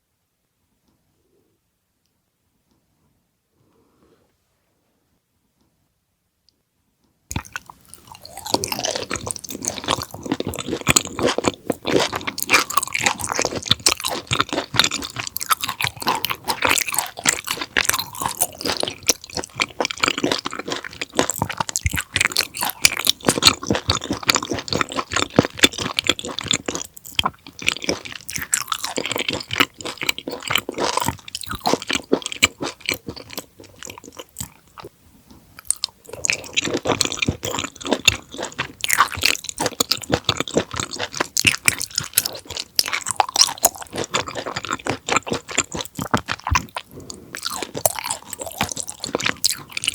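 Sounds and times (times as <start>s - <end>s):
chewing crunches: 7.3s - 49.9s.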